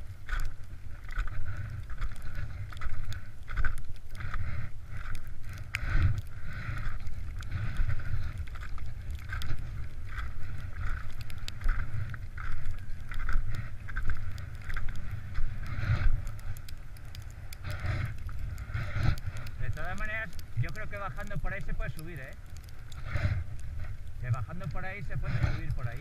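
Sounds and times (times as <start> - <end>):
skis scraping over snow: 0.0 - 26.0
wind rumbling on microphone: 0.0 - 26.0.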